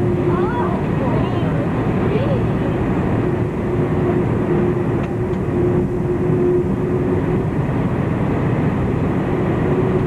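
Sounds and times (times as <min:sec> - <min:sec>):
aircraft cabin low rumble: 0:00.0 - 0:10.0
steady hum: 0:00.0 - 0:10.0.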